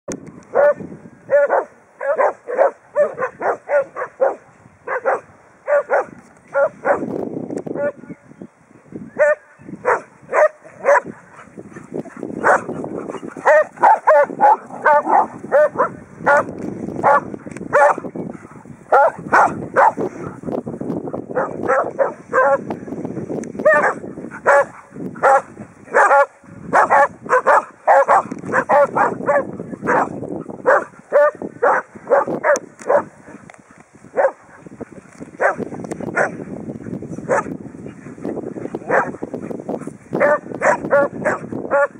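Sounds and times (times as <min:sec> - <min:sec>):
dogs barking: 0:00.5 - 0:07.1, 0:09.2 - 0:20.4, 0:21.2 - 0:22.8, 0:23.6 - 0:33.3, 0:34.1 - 0:34.7, 0:35.4 - 0:36.4, 0:37.2 - 0:39.5, 0:40.1 - 0:41.9.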